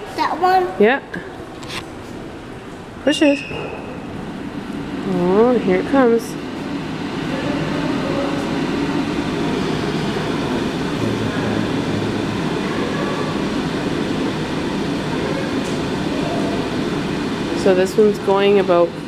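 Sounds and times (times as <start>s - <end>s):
fan blowing air: 0.0s - 19.0s.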